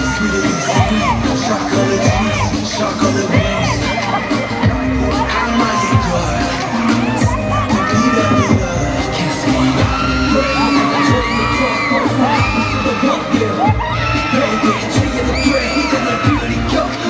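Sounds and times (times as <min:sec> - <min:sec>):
crowd cheering: 0:00.0 - 0:17.0
dance track over sound system: 0:00.0 - 0:17.0.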